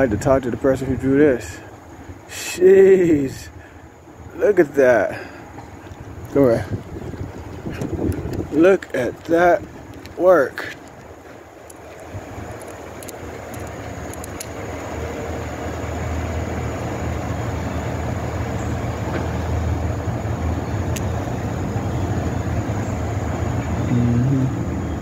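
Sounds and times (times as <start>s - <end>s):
motor vehicle rumble: 0.0s - 25.0s.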